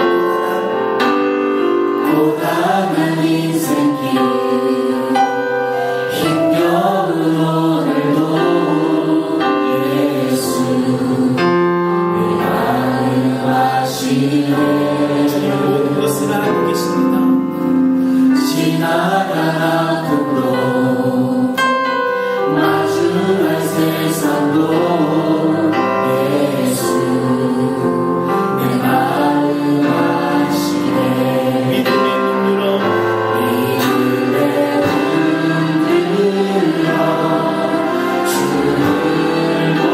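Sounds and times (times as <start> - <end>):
choir and congregation singing hymn: 0.0 - 39.9
instrumental accompaniment: 0.0 - 39.9.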